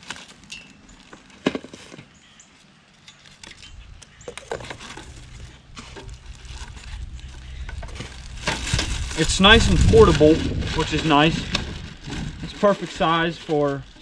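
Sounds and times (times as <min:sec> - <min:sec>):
plastic and foam packing crinkling: 0:00.0 - 0:02.2, 0:04.3 - 0:14.0.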